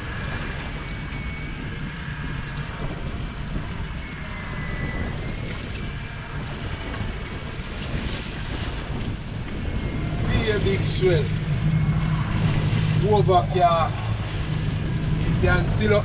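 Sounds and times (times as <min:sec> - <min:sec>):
faint wavering high whine: 0:00.0 - 0:16.0
sea and boat noise: 0:00.0 - 0:16.0
wind buffeting microphone: 0:00.0 - 0:16.0.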